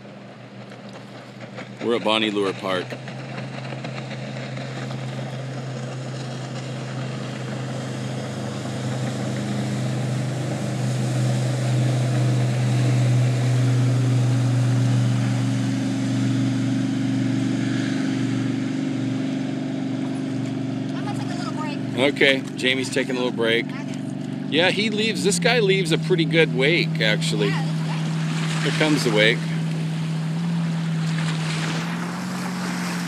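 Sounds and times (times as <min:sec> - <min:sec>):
boat engine drone: 0:00.0 - 0:33.0.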